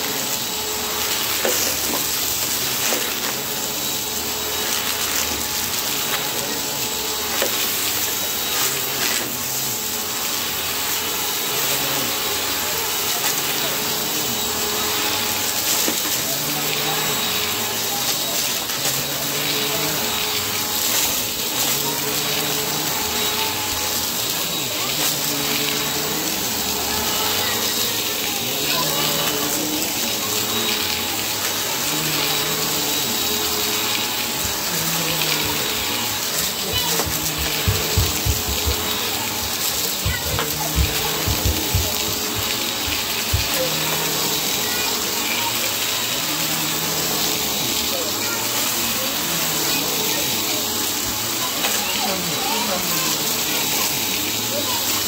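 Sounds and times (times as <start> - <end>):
vacuum cleaner whirring: 0.0 - 55.0.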